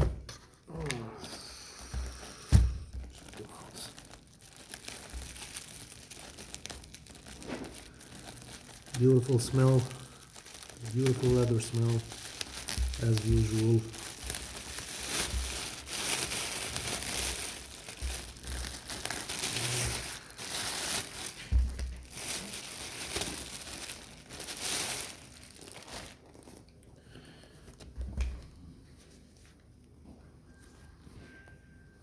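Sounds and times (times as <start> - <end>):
packaging crinkling and rustling: 0.0 - 28.5.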